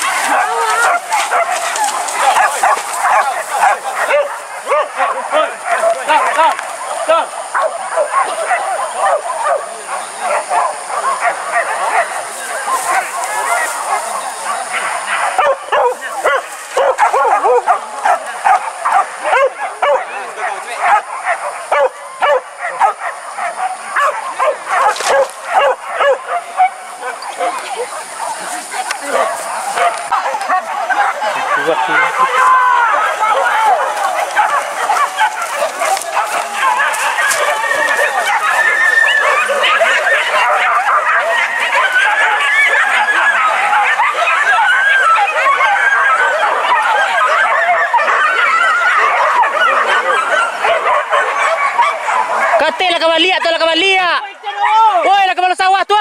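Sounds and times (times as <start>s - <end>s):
dogs yelping and baying: 0.0s - 55.0s.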